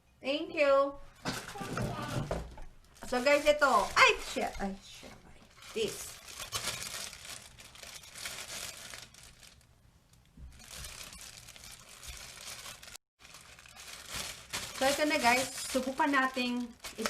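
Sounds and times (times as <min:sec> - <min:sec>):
plastic packaging crinkling: 0:02.8 - 0:17.0.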